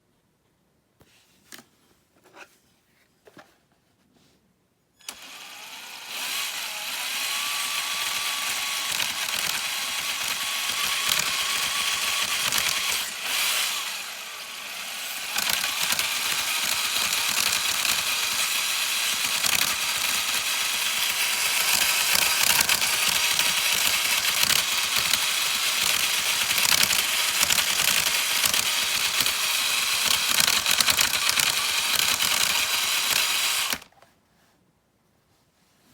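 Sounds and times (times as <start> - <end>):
toy truck motor whirring: 5.0 - 34.0.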